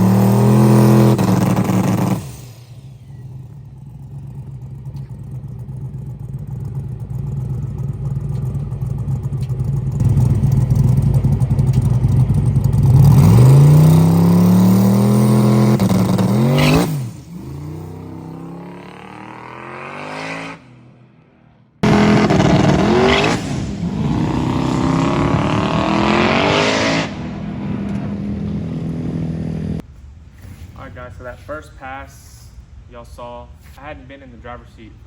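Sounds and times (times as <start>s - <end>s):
drag car engine accelerating: 0.0s - 21.2s, 21.8s - 29.8s.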